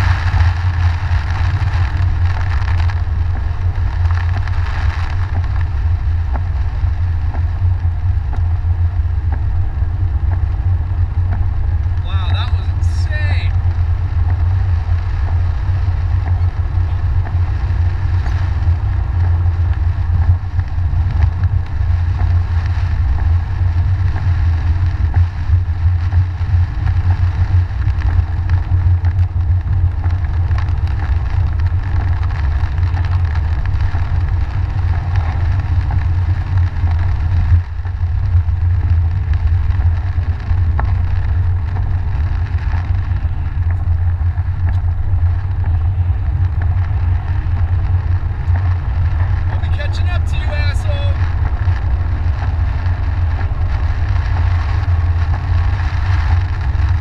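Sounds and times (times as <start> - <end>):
car driving low rumble: 0.0 - 57.0.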